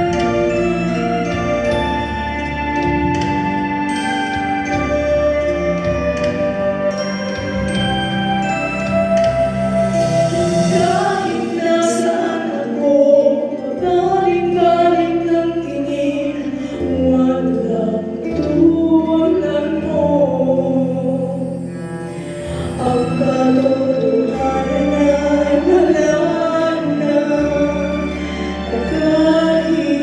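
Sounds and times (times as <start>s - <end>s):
instrumental accompaniment: 0.0s - 30.0s.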